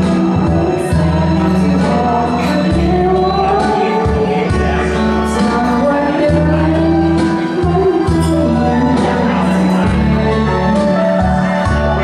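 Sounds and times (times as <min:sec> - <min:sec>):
backing music with bass line: 0:00.0 - 0:12.0
woman singing into microphone: 0:00.0 - 0:12.0.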